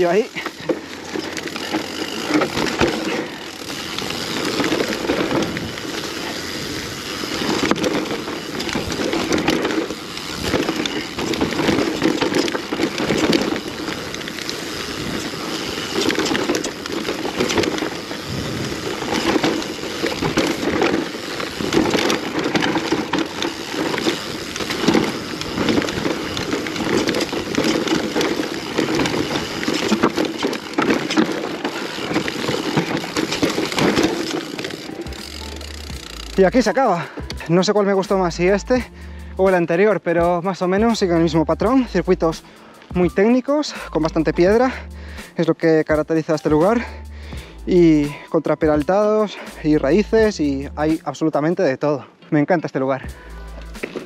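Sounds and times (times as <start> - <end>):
bike knocking and rattling: 0.0 - 54.0
bike tyres crunching over stones: 0.0 - 54.0.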